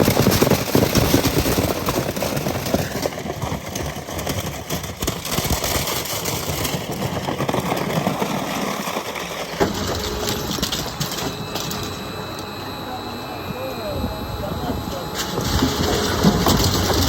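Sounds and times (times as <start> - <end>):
scrap metal shredder grinding: 0.0 - 17.0.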